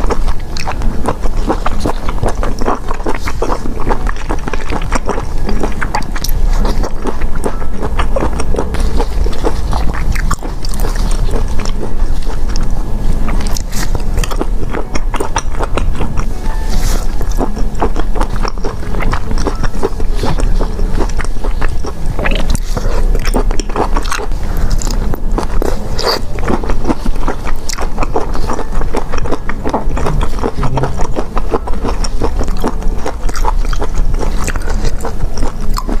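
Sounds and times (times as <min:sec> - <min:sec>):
chewing and biting seafood: 0:00.0 - 0:36.0.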